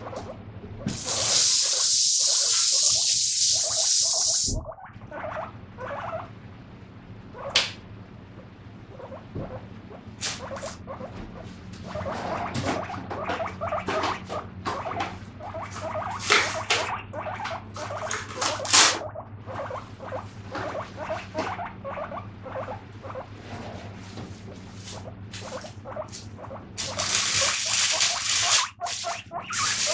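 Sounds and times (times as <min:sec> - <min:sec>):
guinea pig squeaking: 0:00.0 - 0:06.4, 0:07.2 - 0:07.8, 0:08.4 - 0:23.4, 0:24.5 - 0:29.9
steady low hum: 0:00.0 - 0:29.9.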